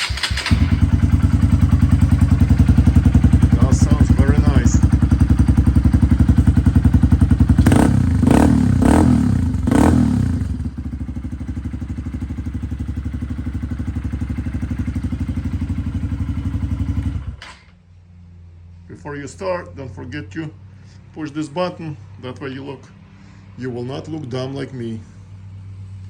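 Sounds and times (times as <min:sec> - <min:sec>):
motorcycle engine idling and revving: 0:00.0 - 0:17.7, 0:20.1 - 0:26.0.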